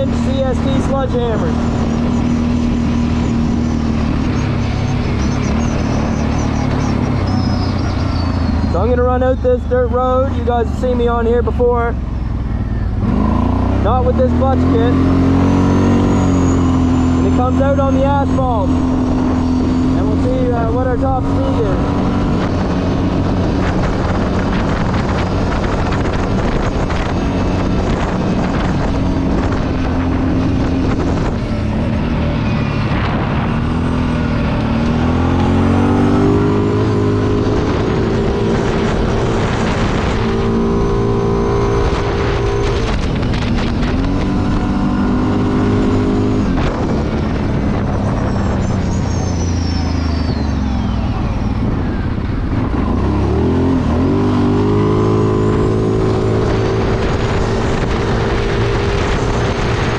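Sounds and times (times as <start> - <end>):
atv engine accelerating: 0.0 - 59.9
road and wind noise: 0.0 - 59.9.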